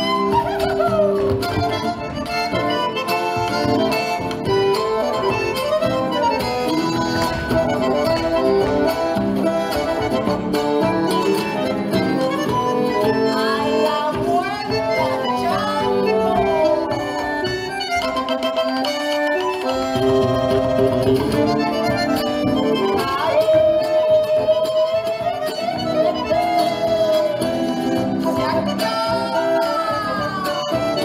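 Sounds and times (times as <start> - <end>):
folk dance music with accordion: 0.0 - 31.0.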